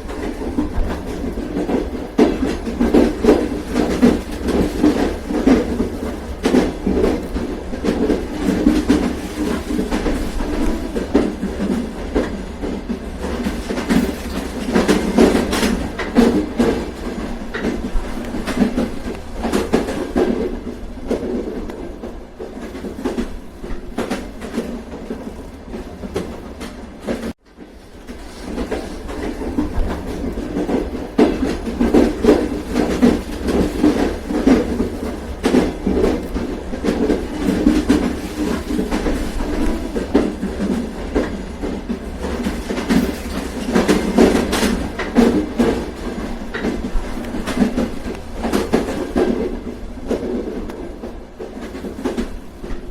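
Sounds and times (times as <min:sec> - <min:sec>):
train rolling rumble: 0:00.0 - 0:52.9
wheels clacking over rail joints: 0:00.0 - 0:52.9.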